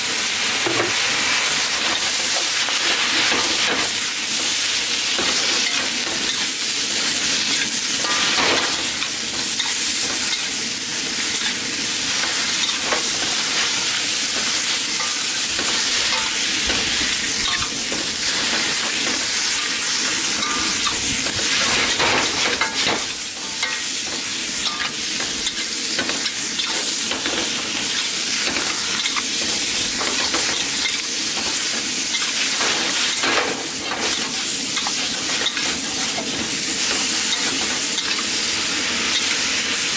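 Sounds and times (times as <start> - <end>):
vegetables sizzling in a wok: 0.0 - 39.9
utensil scraping a wok: 5.1 - 39.4.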